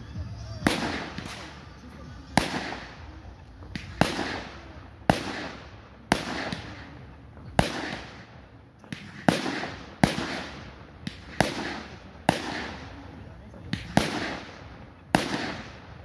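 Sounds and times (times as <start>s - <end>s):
fireworks bangs: 0.0s - 16.0s
faint fireworks pops: 0.6s - 16.0s.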